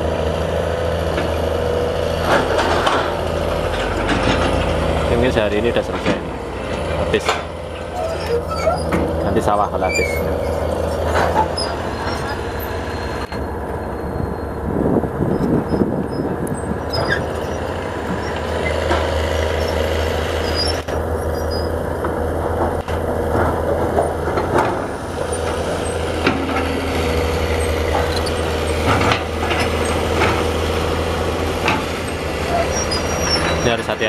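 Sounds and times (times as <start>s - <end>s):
dump truck driving off: 0.0s - 34.0s
excavator diesel engine running: 0.0s - 34.0s.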